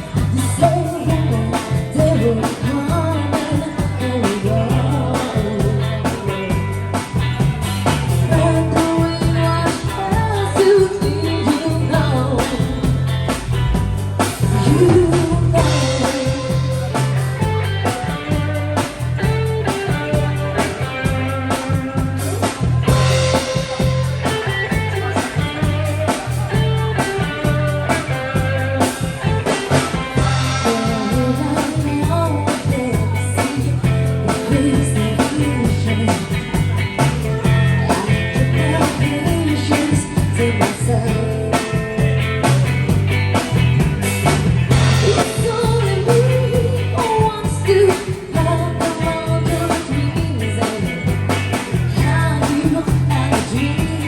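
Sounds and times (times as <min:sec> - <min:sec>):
person singing: 0:00.0 - 0:42.8, 0:44.8 - 0:54.0
rock band playing: 0:00.0 - 0:54.0.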